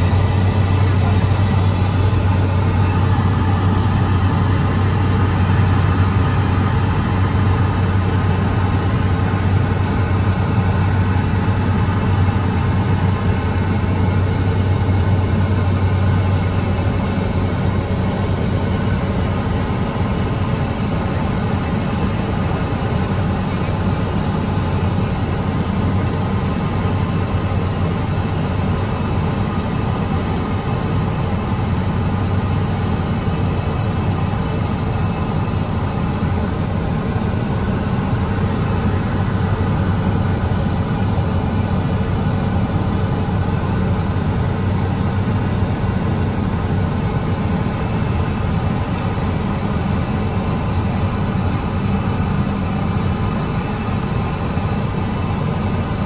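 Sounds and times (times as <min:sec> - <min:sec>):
propeller aircraft engine drone: 0:00.0 - 0:56.0.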